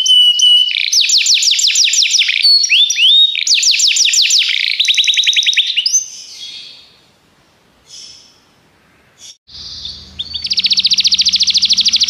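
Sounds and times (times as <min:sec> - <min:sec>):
canary singing: 0:00.0 - 0:07.0, 0:09.2 - 0:12.0.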